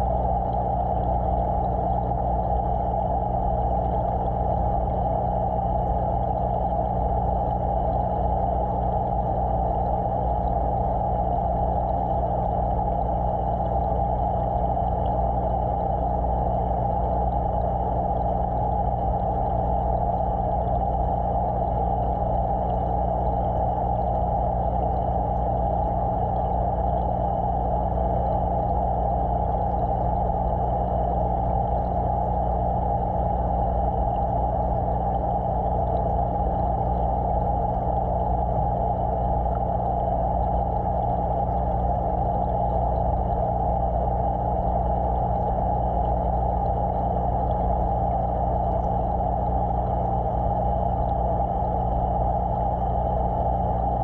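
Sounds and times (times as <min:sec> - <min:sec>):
aquarium pump motor hum: 0:00.0 - 0:54.0.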